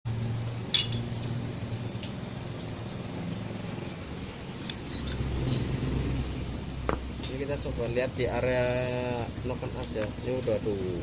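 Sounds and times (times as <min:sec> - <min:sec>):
low engine-like hum: 0:00.1 - 0:11.0.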